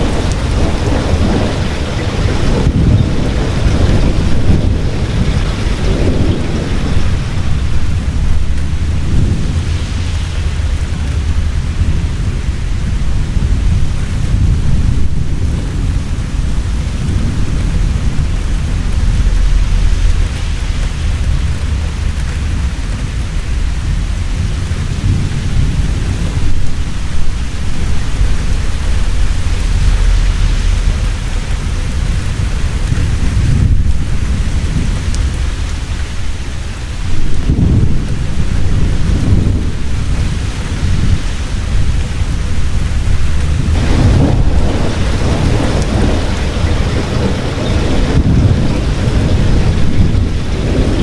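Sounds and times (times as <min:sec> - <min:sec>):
heavy rain: 0:00.0 - 0:51.0
low rolling thunder: 0:00.0 - 0:51.0.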